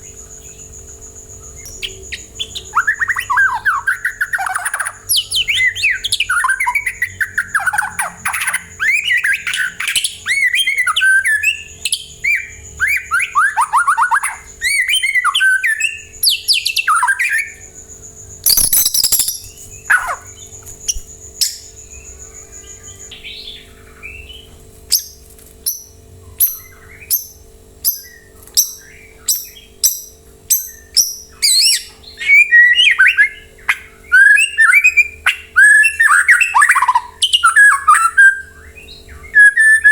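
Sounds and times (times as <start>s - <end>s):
bird singing whistled phrases: 1.6s - 17.6s, 18.4s - 21.6s, 25.7s - 39.9s.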